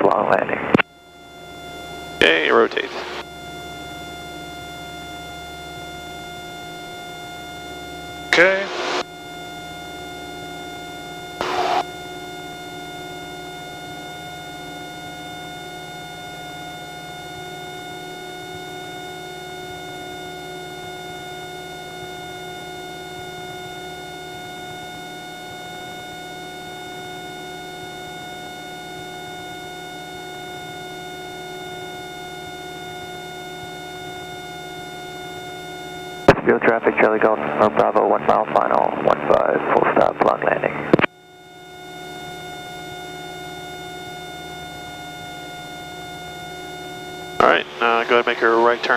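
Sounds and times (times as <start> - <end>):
airplane engine drone in cockpit: 0.0 - 48.9.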